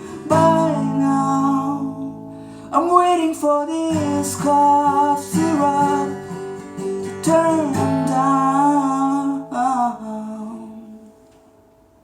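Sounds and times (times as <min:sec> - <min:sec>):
acoustic guitar chord strummed: 0:00.0 - 0:11.9.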